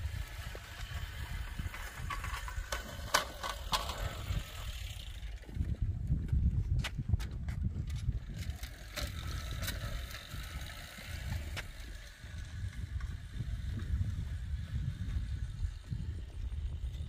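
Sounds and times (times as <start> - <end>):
push reel mower rumbling: 0.0 - 6.2, 7.8 - 17.0.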